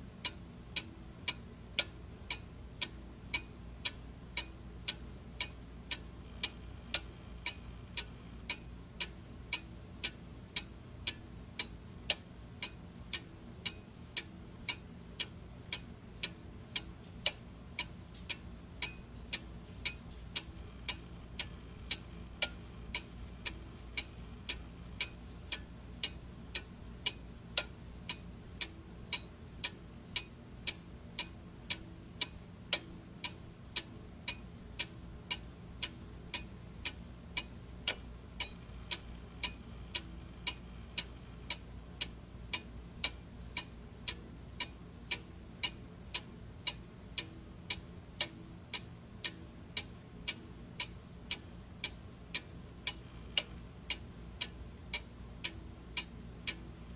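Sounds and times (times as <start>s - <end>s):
faint low hum: 0.0s - 56.9s
clock ticking: 0.1s - 56.9s.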